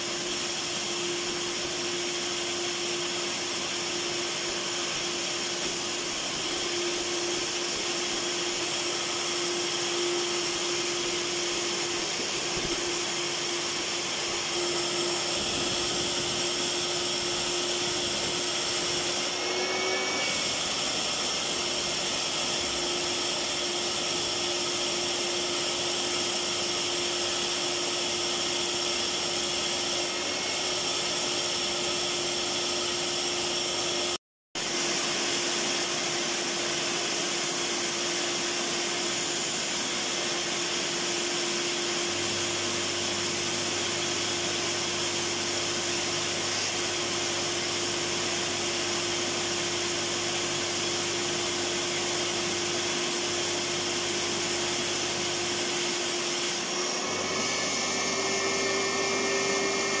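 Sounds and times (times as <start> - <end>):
vacuum cleaner running: 0.0 - 60.0.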